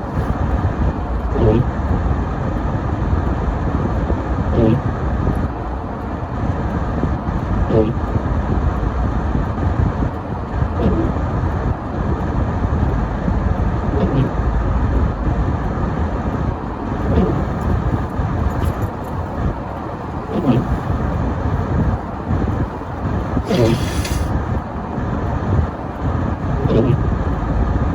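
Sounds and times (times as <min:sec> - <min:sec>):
car engine and road rumble: 0:00.0 - 0:27.9.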